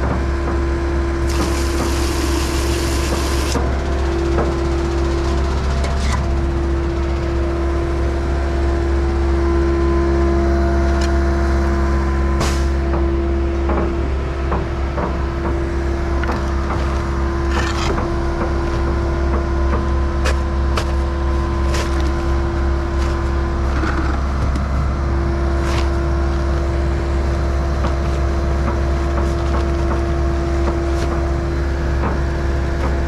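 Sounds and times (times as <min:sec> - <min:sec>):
concrete pump diesel engine running: 0:00.0 - 0:33.0.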